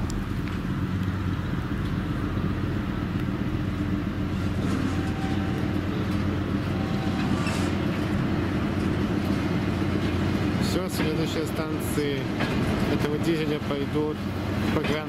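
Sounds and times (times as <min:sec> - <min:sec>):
diesel train engine drone: 0:00.0 - 0:15.0
train ride noise: 0:00.0 - 0:15.0.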